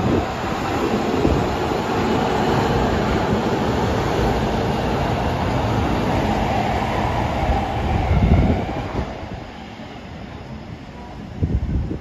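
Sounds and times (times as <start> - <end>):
subway train passing: 0.0 - 12.0.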